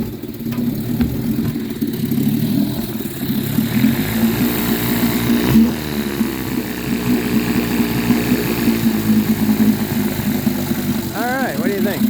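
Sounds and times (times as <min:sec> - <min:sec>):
outboard motor idling unevenly: 0:00.0 - 0:12.0.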